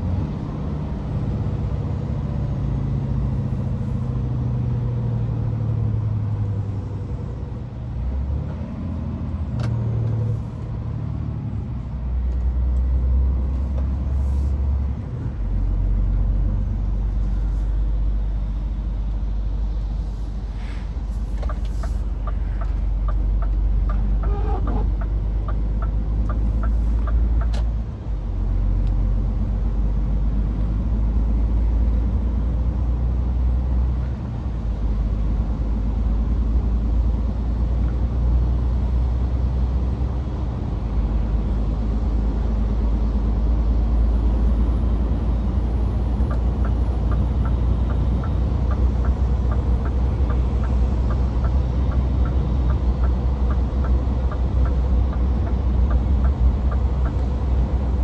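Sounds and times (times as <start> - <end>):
road noise: 0.0 - 58.0
truck diesel engine droning: 0.0 - 58.0.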